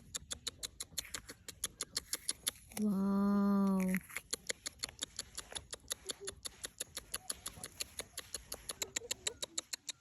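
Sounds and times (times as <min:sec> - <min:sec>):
rapid sharp clicks: 0:00.0 - 0:02.9, 0:04.0 - 0:10.0.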